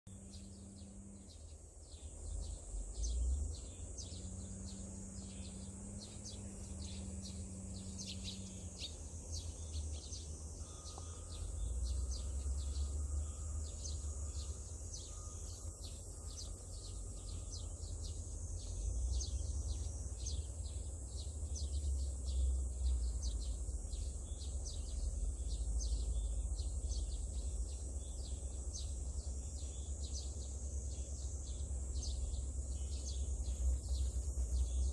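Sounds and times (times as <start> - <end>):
birds chirping: 0.1 - 34.9
continuous low rumble: 0.1 - 34.9
faint low hum: 0.1 - 34.9
high-pitched insect drone: 1.8 - 34.9.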